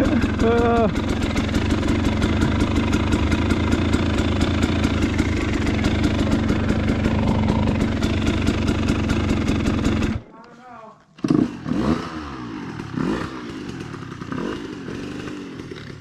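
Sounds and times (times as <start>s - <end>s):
dirt bike engine idling: 0.0s - 10.3s, 11.3s - 16.0s.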